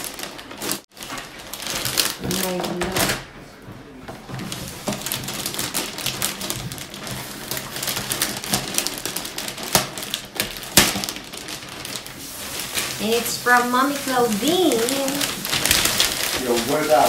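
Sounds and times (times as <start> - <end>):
wrapping paper rustling and crinkling: 0.0 - 3.4, 4.2 - 17.0.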